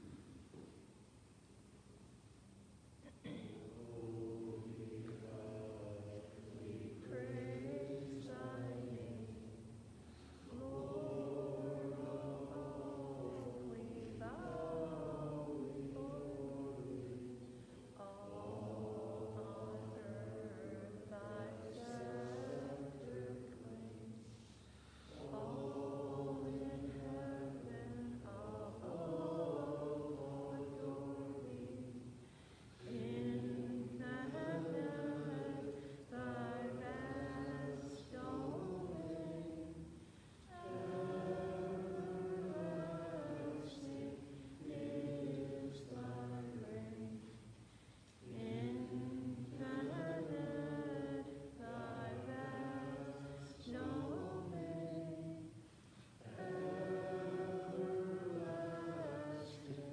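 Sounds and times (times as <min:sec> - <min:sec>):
voices singing a slow hymn: 0:00.0 - 0:59.9.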